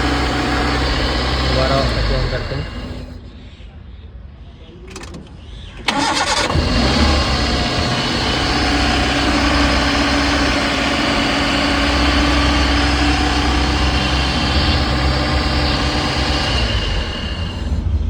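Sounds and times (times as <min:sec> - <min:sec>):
van engine idling: 0:00.0 - 0:03.5, 0:04.9 - 0:18.0.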